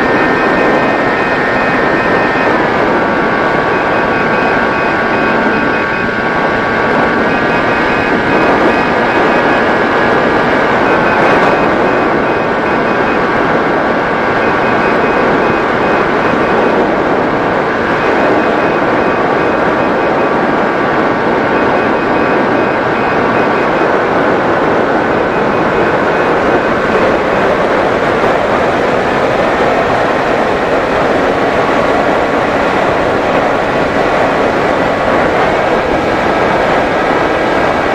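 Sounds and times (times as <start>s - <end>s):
electric motor whine: 0.0s - 37.9s
rushing air: 0.0s - 37.9s.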